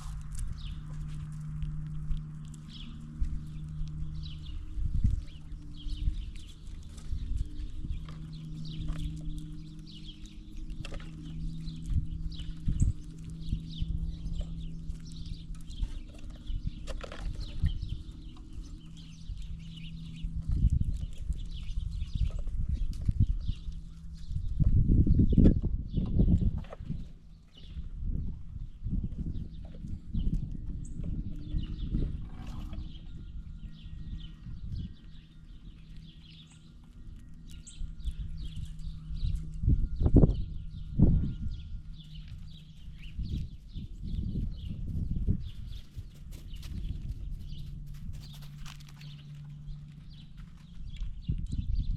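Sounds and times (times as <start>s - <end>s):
small birds chirping: 0.0s - 51.9s
squirrels and birds scrabbling: 0.0s - 51.9s
steady low hum: 0.0s - 51.9s.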